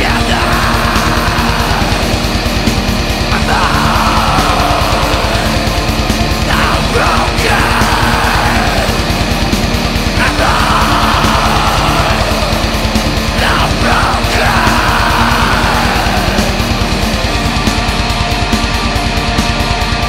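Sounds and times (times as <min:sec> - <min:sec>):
harsh yelled vocals: 0:00.0 - 0:18.5
heavy metal music: 0:00.0 - 0:20.0.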